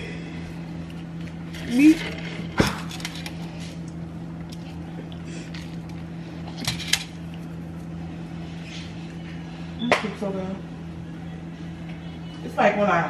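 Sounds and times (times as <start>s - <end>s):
kitchen appliance electrical hum: 0.0s - 13.0s.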